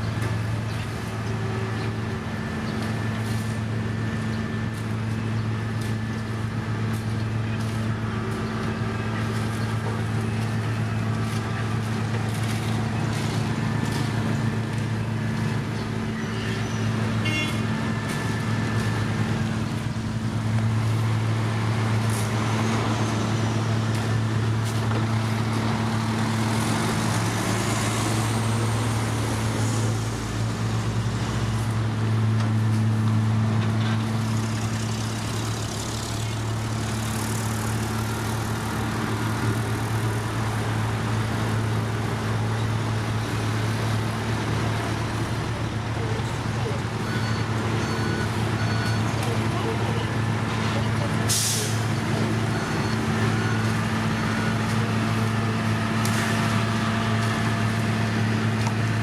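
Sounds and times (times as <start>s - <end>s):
heavy machine engine running: 0.0s - 59.0s.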